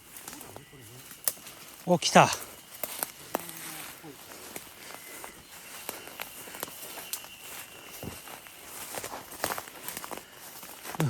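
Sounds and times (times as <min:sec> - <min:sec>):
footsteps on forest trail: 0:00.0 - 0:11.0.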